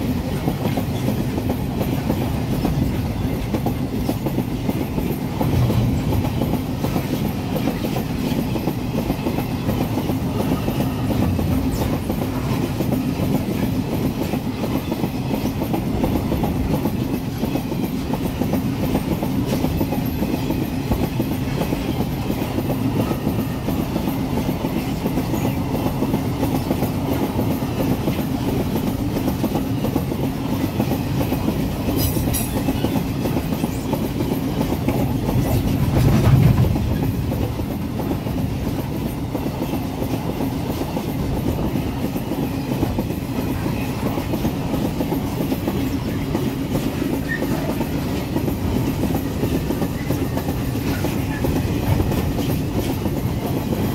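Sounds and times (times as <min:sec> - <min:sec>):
train wagons rumbling on rails: 0:00.0 - 0:53.9.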